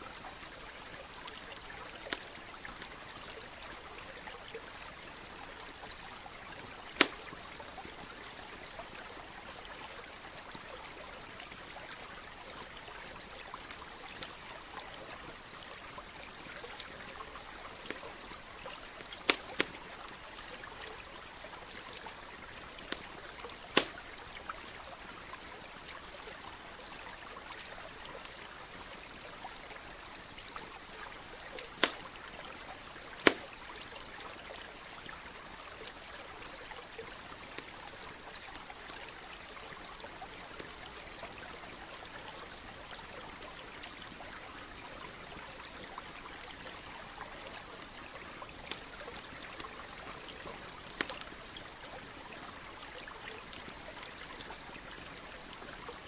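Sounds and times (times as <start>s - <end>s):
small stream trickling: 0.0s - 56.0s
campfire crackling and popping: 0.1s - 56.0s.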